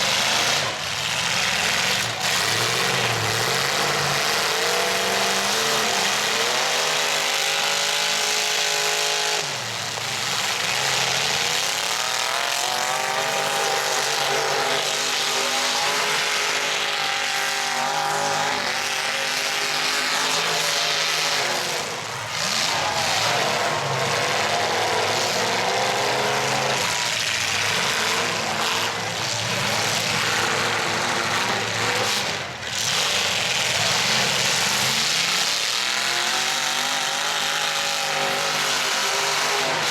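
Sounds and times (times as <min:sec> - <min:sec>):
truck engines revving hard: 0:00.0 - 0:39.9.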